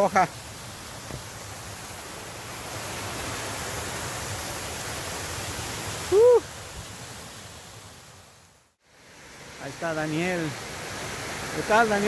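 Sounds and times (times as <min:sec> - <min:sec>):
stream and waterfall rushing: 0:00.0 - 0:12.0.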